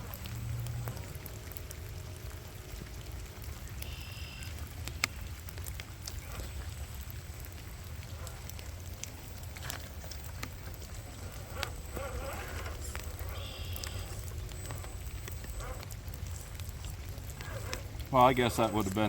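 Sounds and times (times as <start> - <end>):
steady low rumble: 0.0 - 3.9, 4.5 - 19.0
rain falling: 0.0 - 19.0
raindrops ticking close by: 0.0 - 19.0.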